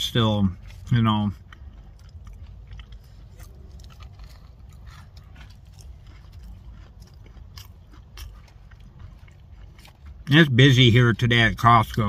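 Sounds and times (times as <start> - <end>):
low steady rumble: 0.0 - 12.0
person chewing cookie: 0.0 - 12.0.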